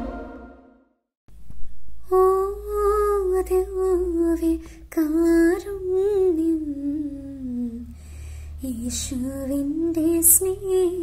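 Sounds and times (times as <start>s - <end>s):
woman singing wordless vocalise: 2.0s - 11.0s.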